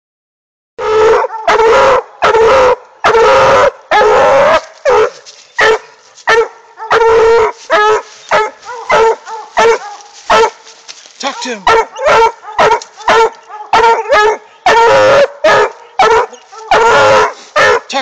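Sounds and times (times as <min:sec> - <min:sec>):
hound bawling and barking: 0:00.8 - 0:18.0.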